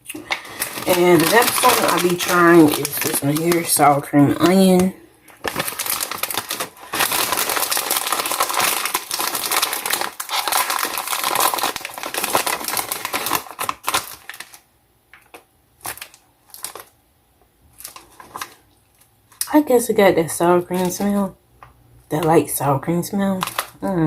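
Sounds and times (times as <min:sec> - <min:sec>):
snack bag rustling and crinkling: 0:00.0 - 0:17.0, 0:17.7 - 0:19.5, 0:23.3 - 0:23.9.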